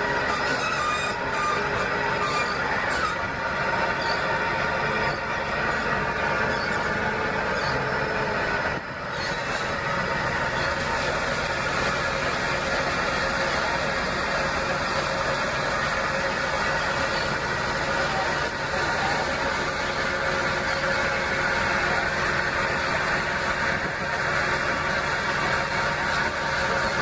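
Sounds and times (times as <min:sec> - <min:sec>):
machinery running: 0:00.0 - 0:27.0.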